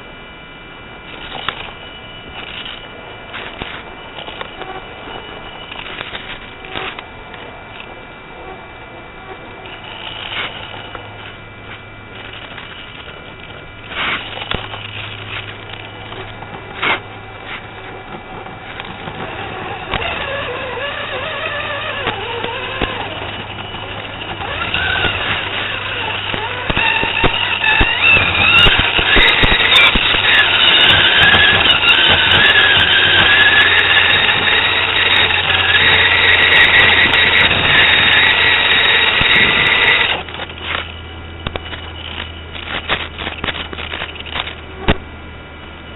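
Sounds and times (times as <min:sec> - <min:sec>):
toy truck electric motor whine: 0:01.1 - 0:08.6, 0:09.2 - 0:11.4, 0:12.0 - 0:44.6.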